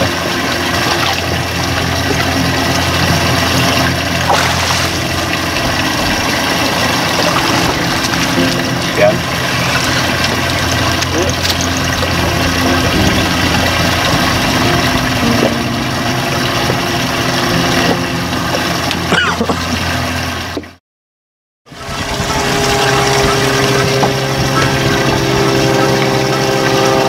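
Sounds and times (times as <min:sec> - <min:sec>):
boat engine idling: 0:00.0 - 0:20.8, 0:21.7 - 0:27.0.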